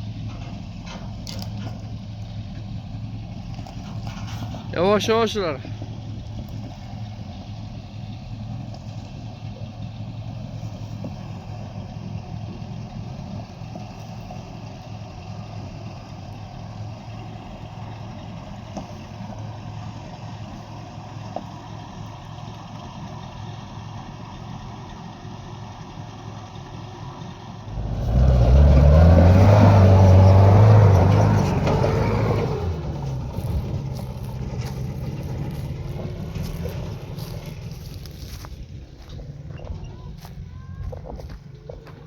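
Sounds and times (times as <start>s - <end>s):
vehicle engine running at low revs: 0.0s - 42.0s.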